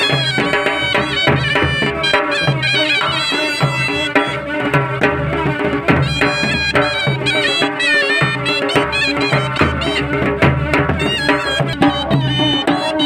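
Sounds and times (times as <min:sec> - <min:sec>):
dhol drums beating: 0:00.0 - 0:13.0
reed pipe melody: 0:00.0 - 0:13.0.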